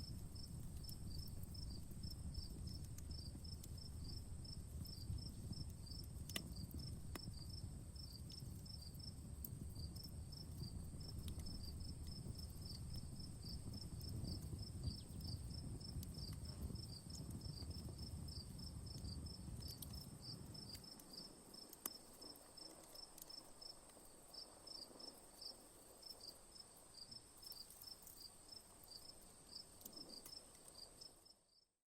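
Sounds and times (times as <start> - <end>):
wood fire crackling: 0.0 - 31.4
crickets chirping: 0.0 - 31.6.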